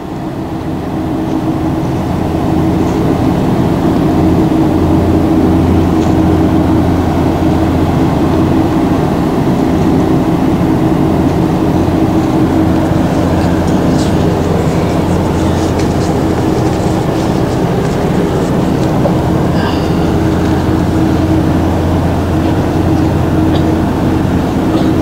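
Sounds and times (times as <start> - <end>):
ship engines droning: 0.0 - 25.0.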